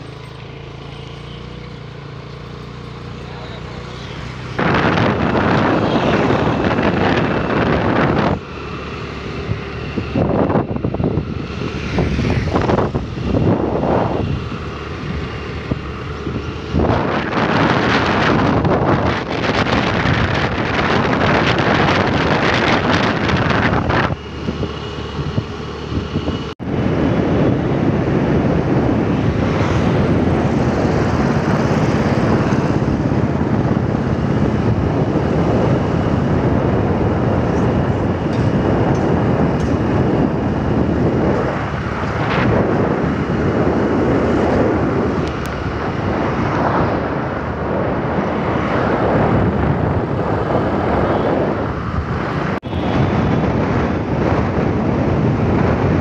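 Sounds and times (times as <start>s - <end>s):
road noise: 0.0s - 56.0s
vehicle engine: 0.0s - 56.0s
wind buffeting microphone: 1.8s - 56.0s.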